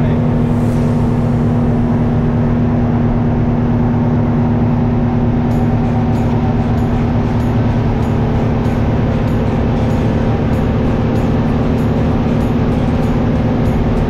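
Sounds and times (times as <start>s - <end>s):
boat engine humming: 0.0s - 14.0s
rushing water noise: 0.0s - 14.0s.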